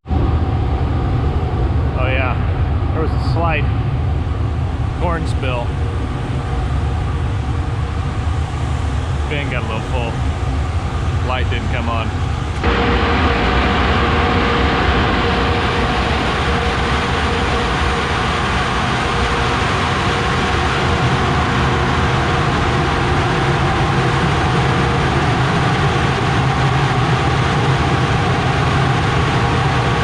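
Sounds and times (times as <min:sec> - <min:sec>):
heavy farm machinery droning: 0:00.1 - 0:30.0.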